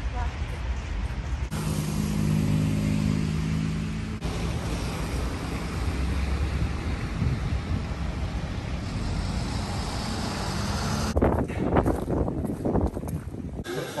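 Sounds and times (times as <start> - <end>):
passing vehicles: 0.0 - 14.0
engine hum: 0.2 - 14.0.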